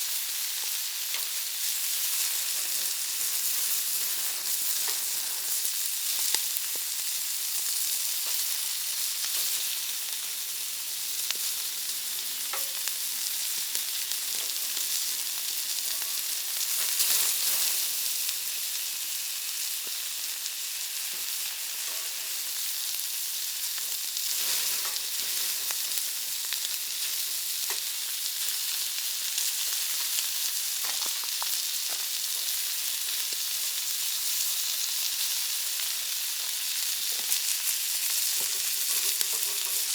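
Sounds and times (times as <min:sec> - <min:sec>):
meat sizzling on a griddle: 0:00.0 - 0:39.9.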